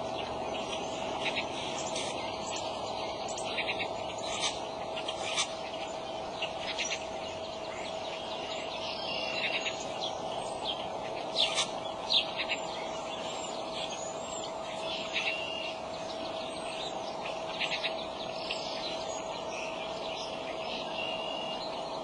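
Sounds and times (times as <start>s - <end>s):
faint hum and hiss: 0.0s - 22.0s
small birds chirping: 0.0s - 22.0s.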